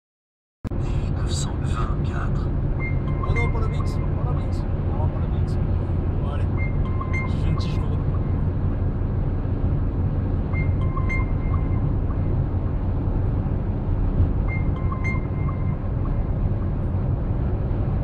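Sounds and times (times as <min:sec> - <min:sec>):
car cabin road and engine noise: 0:00.7 - 0:18.0.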